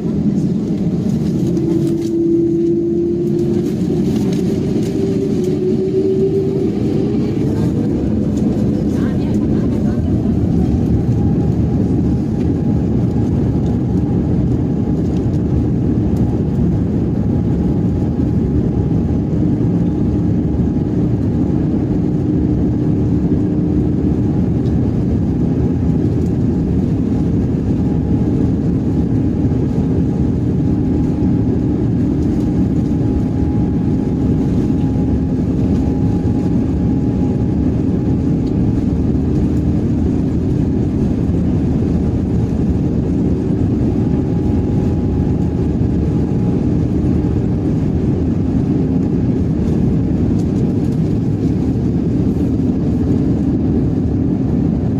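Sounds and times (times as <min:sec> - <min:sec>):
airplane engines rumbling: 0:00.0 - 0:54.9
rushing air: 0:00.0 - 0:54.9.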